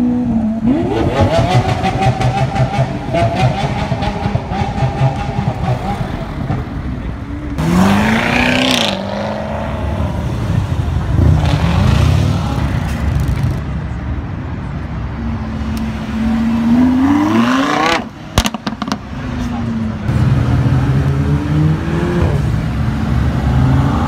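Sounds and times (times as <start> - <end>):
sports car engines revving: 0.0 - 24.0.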